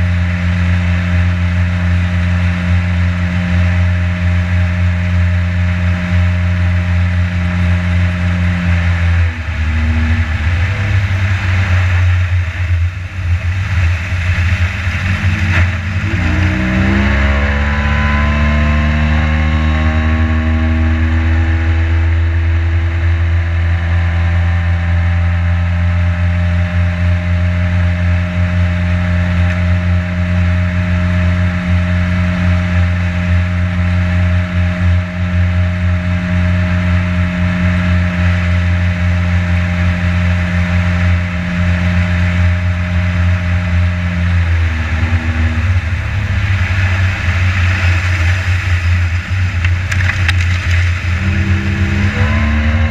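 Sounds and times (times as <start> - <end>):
boat motor running: 0.0 - 52.9.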